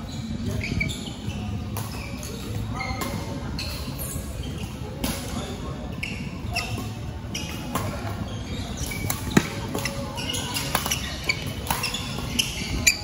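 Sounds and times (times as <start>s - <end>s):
shoe squeaks: 0.0s - 13.0s.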